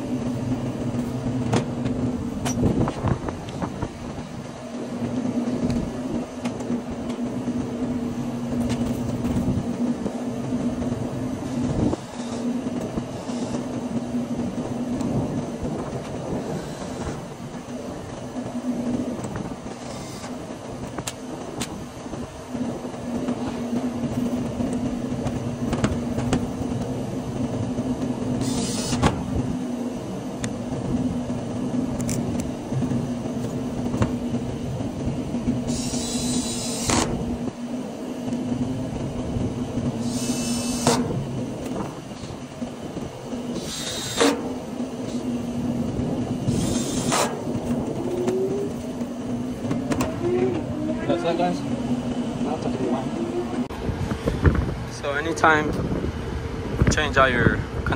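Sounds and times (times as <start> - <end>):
air conditioning hum: 0.0 - 57.9.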